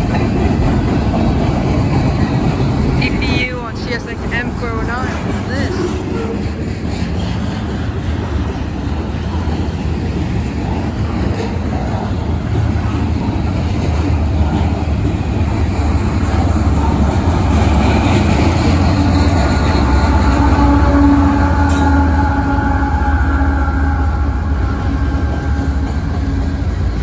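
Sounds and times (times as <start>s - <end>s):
diesel locomotive engine drone: 0.0s - 27.0s
train wheels rumbling on rail: 0.0s - 27.0s.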